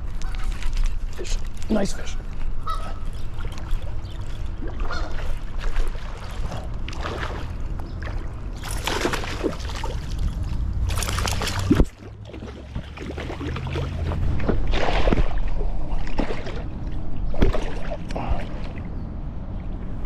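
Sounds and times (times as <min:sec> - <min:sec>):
fish splashing in water: 0:02.6 - 0:18.8.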